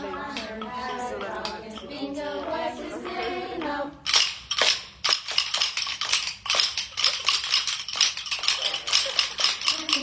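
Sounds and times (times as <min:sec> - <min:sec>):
rhythm sticks clacking: 0:00.0 - 0:10.0.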